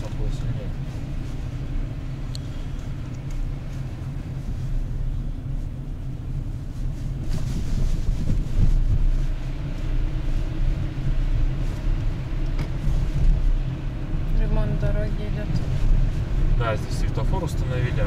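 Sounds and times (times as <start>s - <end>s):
car road noise rumble: 0.0s - 18.0s.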